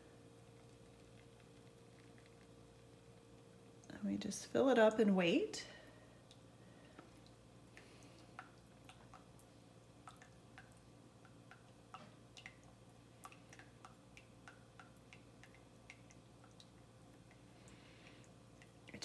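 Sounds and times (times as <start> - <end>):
quiet room hum: 0.0 - 19.0
coffee dripping into mug: 0.4 - 3.9, 6.2 - 19.0.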